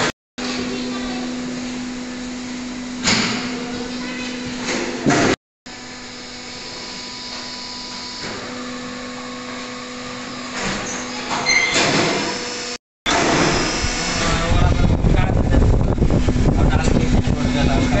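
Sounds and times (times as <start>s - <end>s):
machinery electric hum: 0.0s - 18.0s
mechanical machinery noise: 0.0s - 18.0s.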